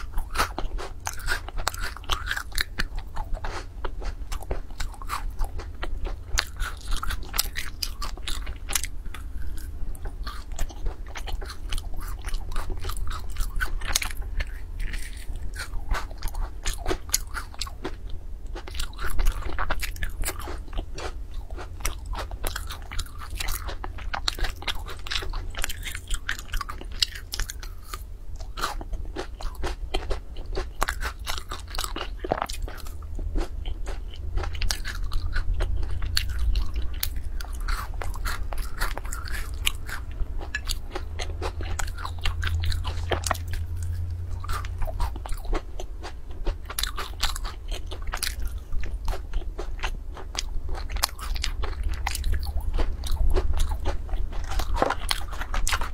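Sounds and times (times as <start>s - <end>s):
person chewing crispy snack: 0.0s - 55.9s.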